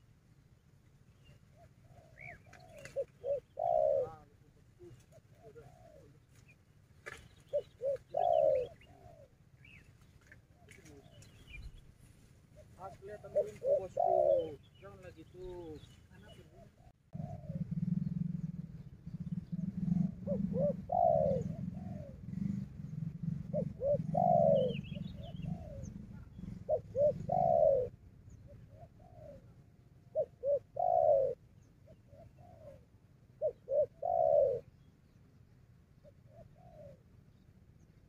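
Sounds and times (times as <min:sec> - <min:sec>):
dove cooing: 0:01.2 - 0:11.8, 0:12.5 - 0:35.2, 0:35.9 - 0:37.8.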